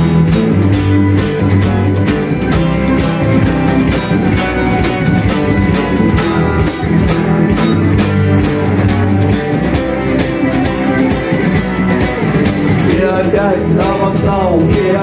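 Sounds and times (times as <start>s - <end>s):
bass guitar: 0.0s - 15.0s
electric guitar: 0.0s - 15.0s
steady drum beat: 0.0s - 15.0s.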